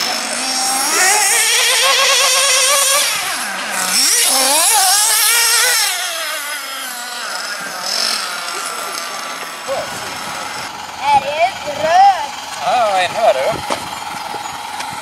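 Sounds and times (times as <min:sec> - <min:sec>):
model car engines whining: 0:00.0 - 0:15.0.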